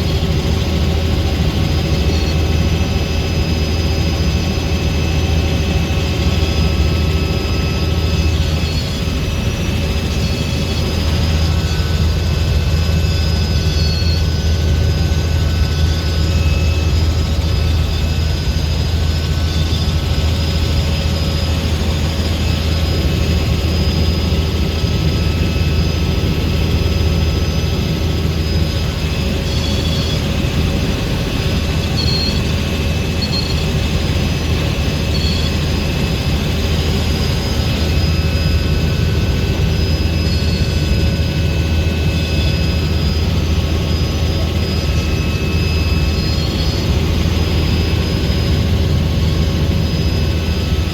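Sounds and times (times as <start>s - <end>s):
helicopter rotor drone: 0.0s - 50.9s
thin whining tones: 0.1s - 50.9s.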